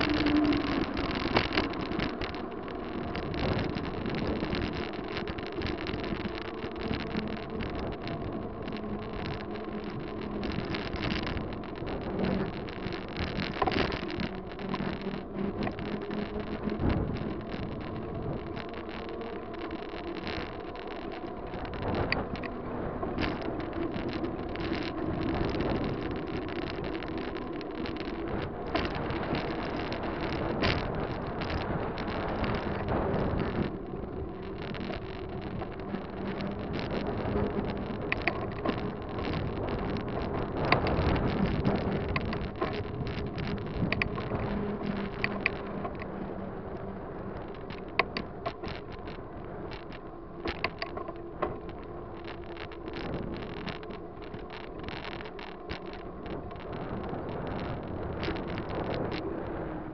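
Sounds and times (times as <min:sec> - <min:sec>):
bicycle rattles and clicks: 0:00.0 - 0:59.9
wind on microphone: 0:00.0 - 0:59.9.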